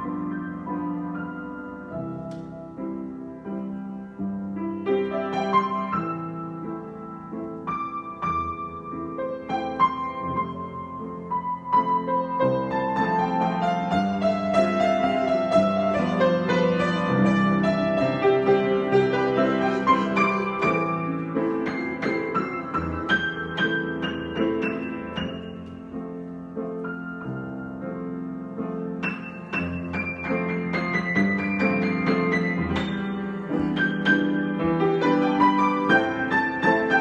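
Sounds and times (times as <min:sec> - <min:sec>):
solo piano improvisation: 0:00.0 - 0:37.0.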